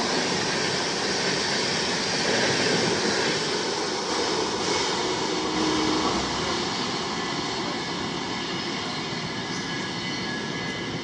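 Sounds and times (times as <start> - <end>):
train wheel and rail noise: 0.0 - 11.0.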